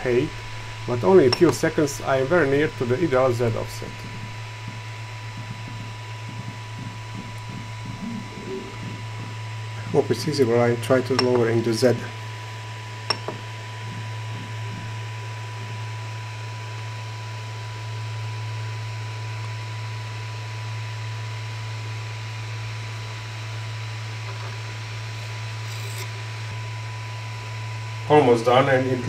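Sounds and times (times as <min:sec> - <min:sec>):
printer fan hum with hiss: 0:00.0 - 0:29.0.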